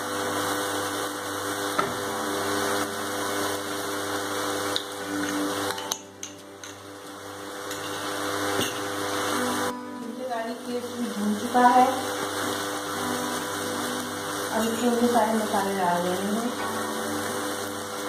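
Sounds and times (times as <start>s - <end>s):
induction cooktop hum: 0.0s - 18.0s
onion paste sizzling in oil: 0.0s - 18.0s.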